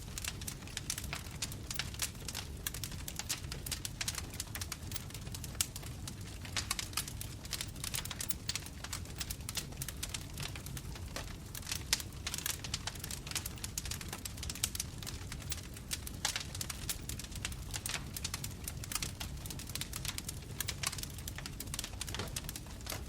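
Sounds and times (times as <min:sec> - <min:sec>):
flames rumbling: 0:00.0 - 0:23.0
bonfire pops and snaps: 0:00.1 - 0:23.0.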